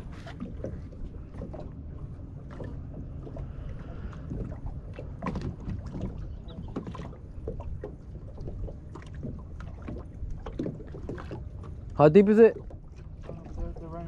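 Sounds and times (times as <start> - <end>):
waves lapping against boat hull: 0.0 - 14.0.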